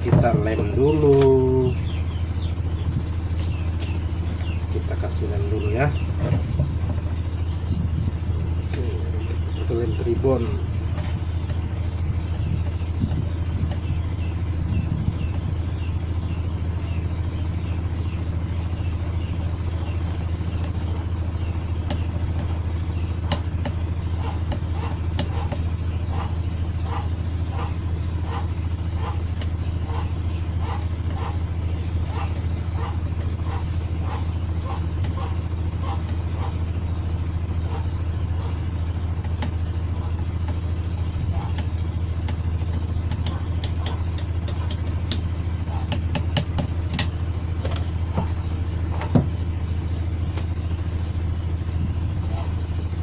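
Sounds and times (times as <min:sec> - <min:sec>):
low engine-like hum: 0:00.0 - 0:53.0.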